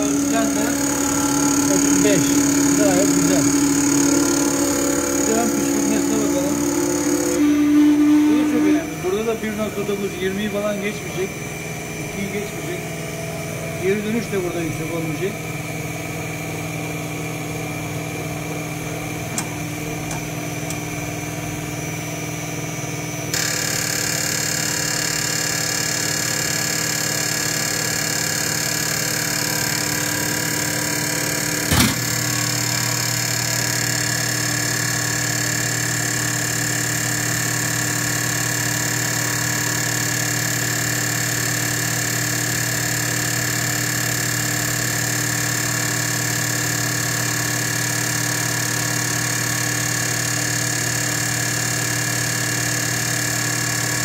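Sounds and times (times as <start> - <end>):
test bench pump humming: 0.0 - 54.0.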